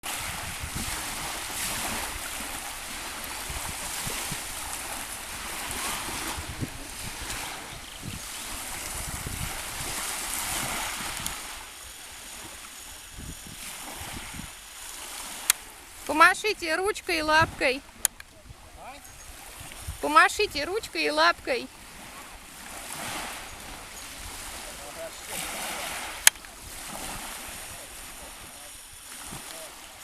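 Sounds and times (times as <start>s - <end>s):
sea water washing and splashing: 0.0s - 18.2s, 18.8s - 30.0s
wind rumbling on microphone: 0.0s - 30.0s.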